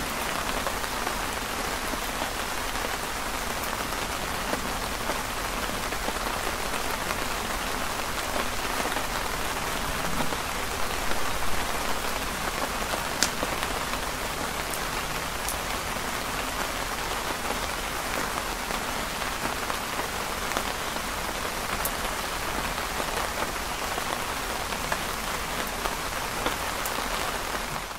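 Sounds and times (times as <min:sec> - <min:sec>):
rain pattering on canopy: 0:00.0 - 0:27.9.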